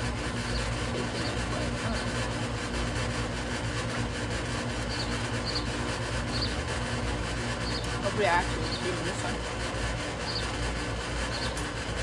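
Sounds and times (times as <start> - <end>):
low outdoor hum: 0.0 - 12.0.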